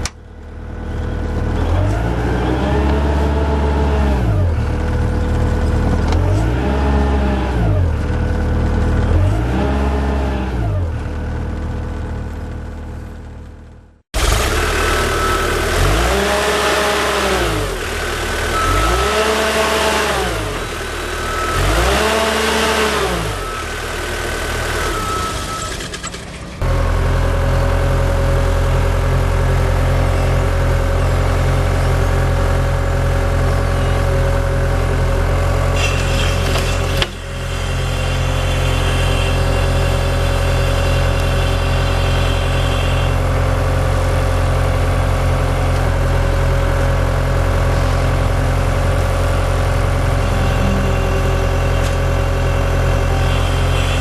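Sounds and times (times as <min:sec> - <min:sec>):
diesel engine revving: 0:00.0 - 0:13.3, 0:14.2 - 0:54.0.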